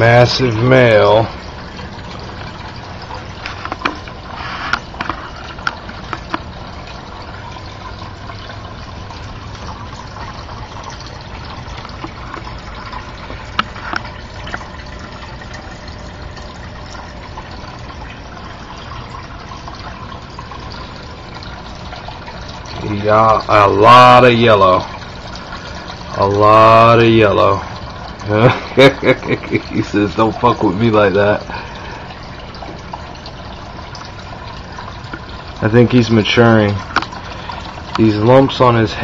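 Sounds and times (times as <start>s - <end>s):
running water splashing: 0.0s - 39.0s.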